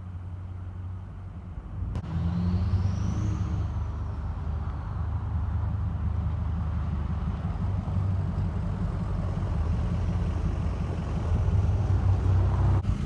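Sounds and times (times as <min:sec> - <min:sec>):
diesel engine deep rumble: 0:00.0 - 0:13.0.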